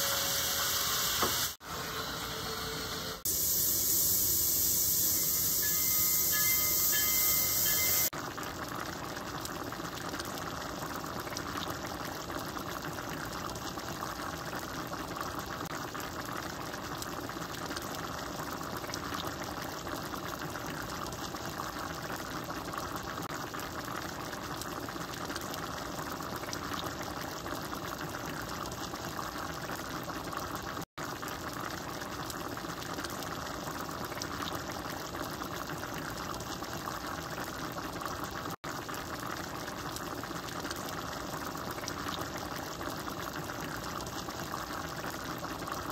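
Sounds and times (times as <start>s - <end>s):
food simmering in a pan: 3.2s - 45.9s.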